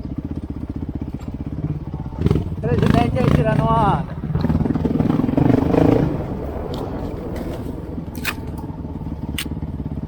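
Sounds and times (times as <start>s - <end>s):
motorcycle engine idling: 0.0s - 6.6s, 7.8s - 10.0s.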